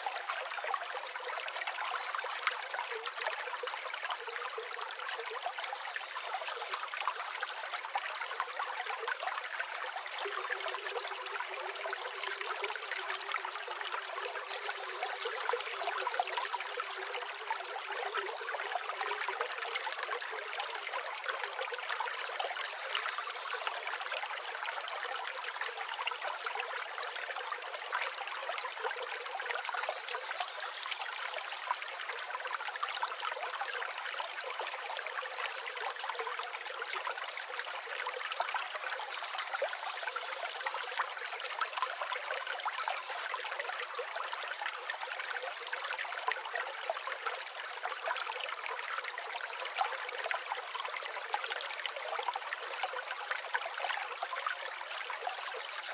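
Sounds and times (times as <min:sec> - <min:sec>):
stream flowing over stones: 0:00.0 - 0:55.9.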